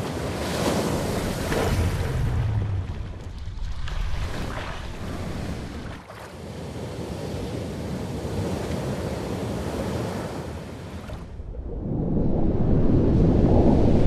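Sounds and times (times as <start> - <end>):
sea waves breaking and rushing: 0.0 - 14.0.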